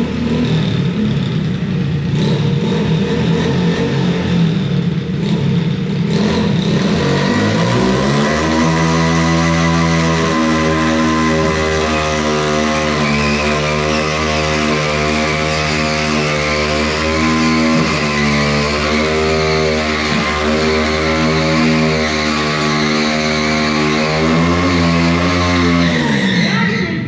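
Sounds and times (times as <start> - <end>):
vehicle engine running: 0.0 - 26.7.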